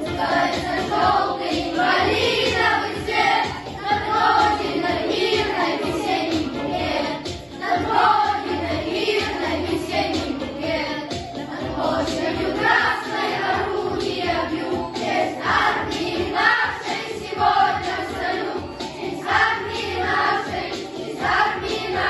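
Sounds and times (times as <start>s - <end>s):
boys singing in chorus: 0.0s - 22.0s
musical accompaniment: 0.0s - 22.0s.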